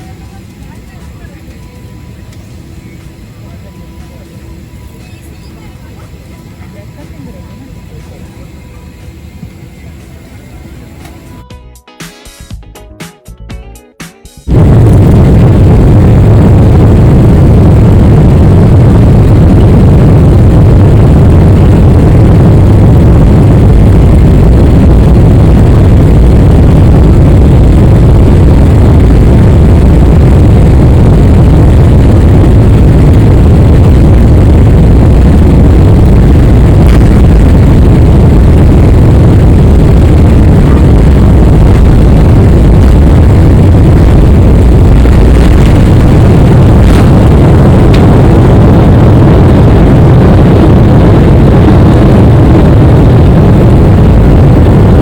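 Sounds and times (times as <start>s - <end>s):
jet cabin engine rumble: 0.0s - 11.4s, 14.5s - 55.0s.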